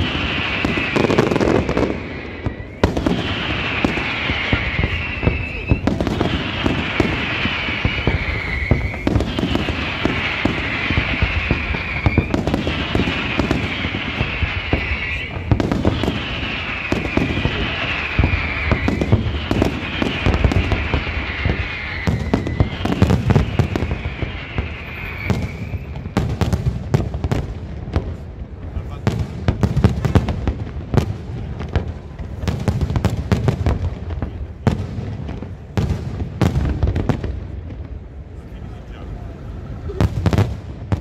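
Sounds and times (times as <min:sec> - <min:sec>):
fireworks crackling and popping: 0:00.0 - 0:41.0
low fireworks booms: 0:00.0 - 0:41.0.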